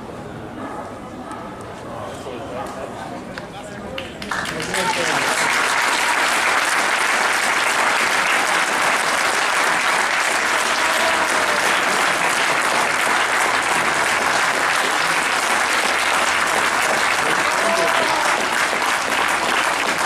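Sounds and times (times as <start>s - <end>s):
stadium crowd applauding: 3.9s - 20.0s.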